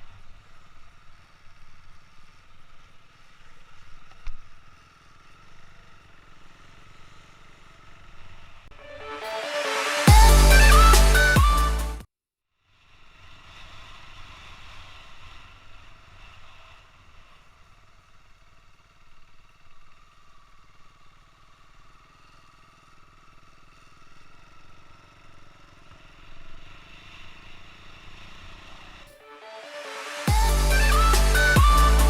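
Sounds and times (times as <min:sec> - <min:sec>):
motorcycle engine: 0:00.2 - 0:12.0, 0:13.1 - 0:29.4, 0:30.1 - 0:32.0.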